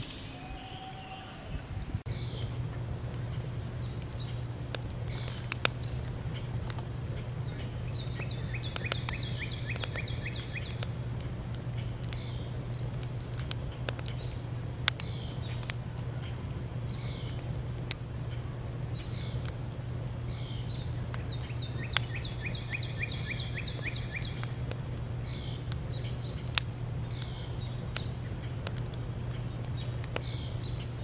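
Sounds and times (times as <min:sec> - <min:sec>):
small birds chirping: 0:00.0 - 0:17.5, 0:18.2 - 0:19.6, 0:20.2 - 0:31.0
steady low hum: 0:00.0 - 0:31.0.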